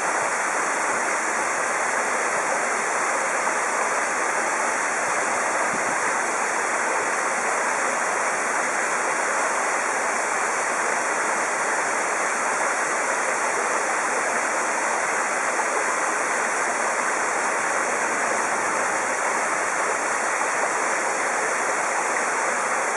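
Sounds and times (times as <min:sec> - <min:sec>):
waterfall pouring: 0:00.0 - 0:22.9.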